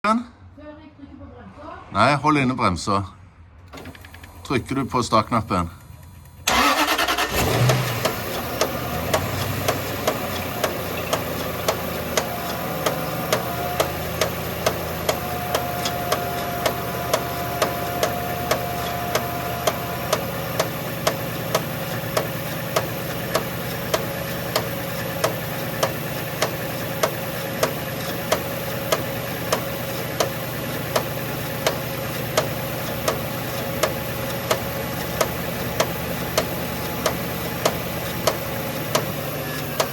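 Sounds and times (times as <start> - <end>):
car engine starting and idling: 3.6 - 39.9.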